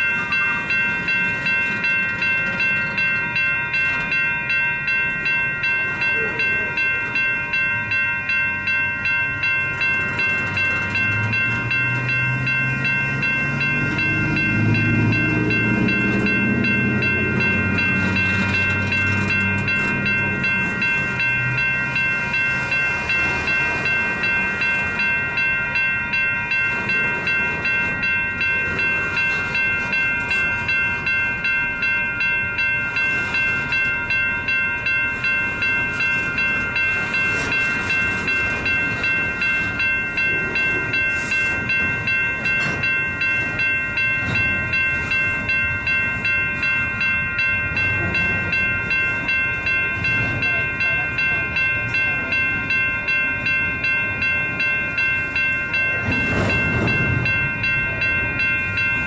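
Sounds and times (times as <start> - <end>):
crossing warning bell dinging: 0.0 - 59.0
train cars rolling past: 0.0 - 59.0.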